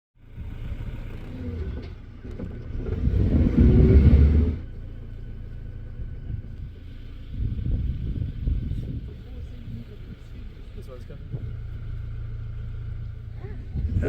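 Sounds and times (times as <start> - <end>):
car engine rumbling: 0.2 - 14.0.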